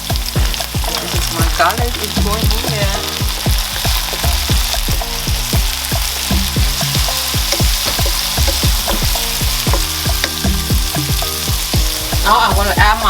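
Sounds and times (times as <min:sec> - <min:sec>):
backing track with low beat: 0:00.0 - 0:13.0
onions sizzling in hot oil: 0:00.0 - 0:13.0
stirring in a pan: 0:00.0 - 0:13.0.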